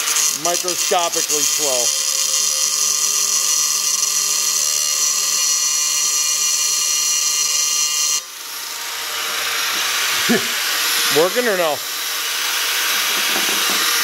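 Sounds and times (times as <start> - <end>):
angle grinder cutting plastic: 0.0 - 14.0.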